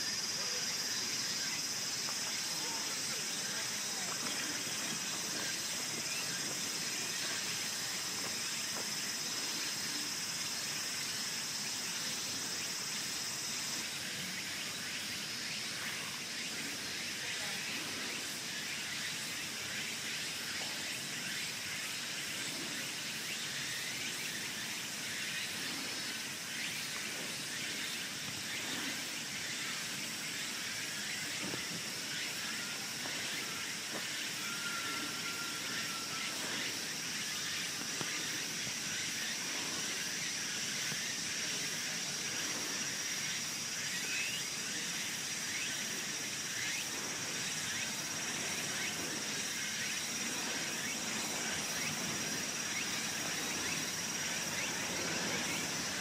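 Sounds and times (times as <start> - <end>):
background hiss: 0.0 - 56.0
high-pitched insect drone: 0.0 - 56.0.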